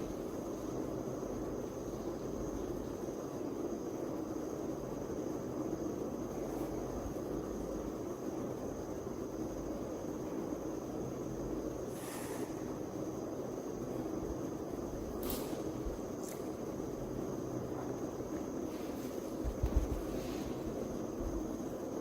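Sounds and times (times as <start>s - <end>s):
low steady background noise: 0.0s - 22.0s.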